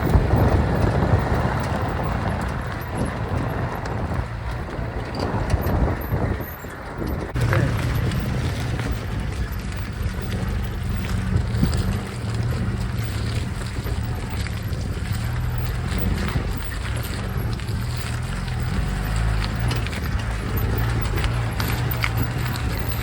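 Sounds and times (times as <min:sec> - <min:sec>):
knocks and rattles: 0:00.0 - 0:23.0
vehicle engine running: 0:00.0 - 0:23.0.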